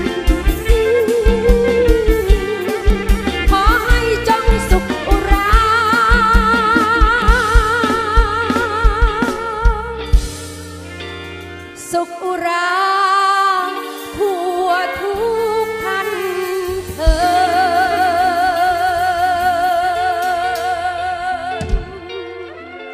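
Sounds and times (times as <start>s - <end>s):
woman singing with vibrato: 0.0s - 10.2s, 11.8s - 22.9s
live band playing: 0.0s - 22.9s.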